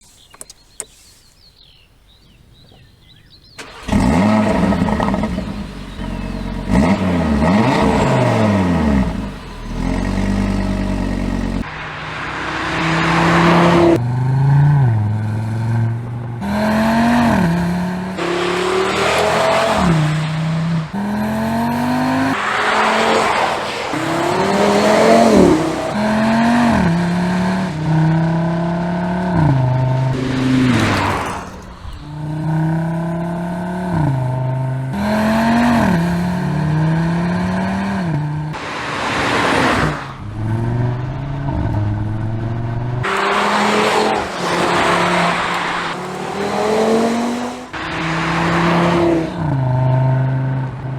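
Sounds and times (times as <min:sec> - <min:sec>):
car accelerating through upshifts: 0:03.5 - 0:50.9
car engine starting and revving: 0:03.5 - 0:50.9.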